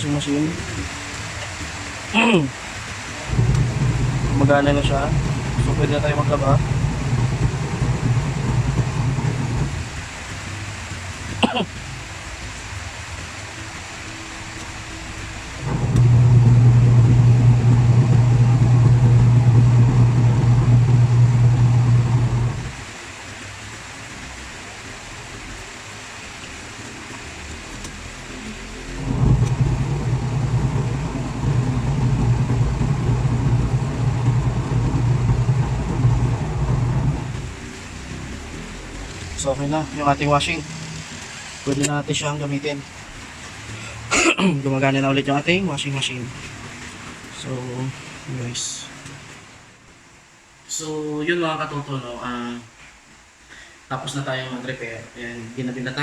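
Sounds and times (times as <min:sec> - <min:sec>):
washing machine motor hum: 0:00.0 - 0:23.4, 0:26.7 - 0:49.4.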